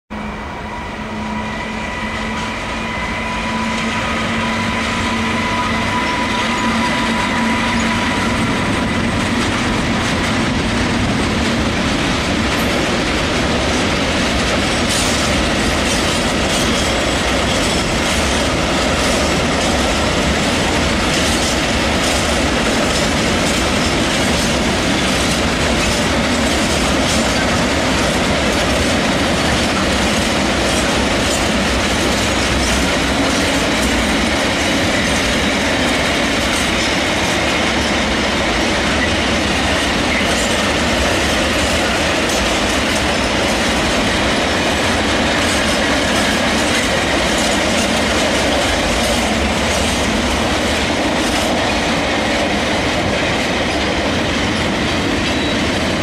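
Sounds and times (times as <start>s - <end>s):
electric locomotive whine: 0.1s - 56.0s
wheels clicking over rail joints: 7.6s - 56.0s.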